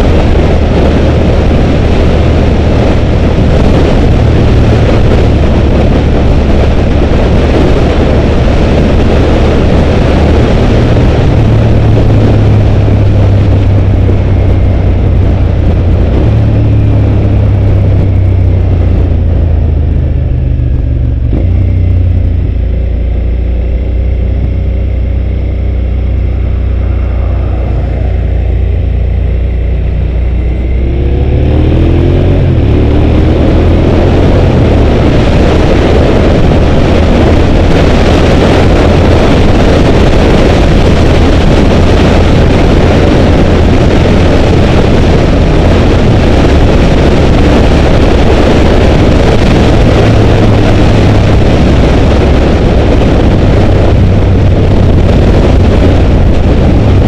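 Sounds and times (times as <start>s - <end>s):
motorcycle engine accelerating: 0.0s - 57.0s
wind rushing over microphone: 0.0s - 57.0s.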